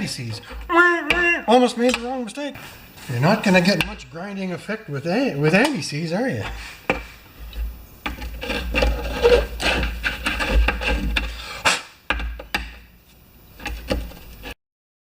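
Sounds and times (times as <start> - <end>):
objects rubbing and scraping: 0.0 - 5.7, 6.4 - 14.6.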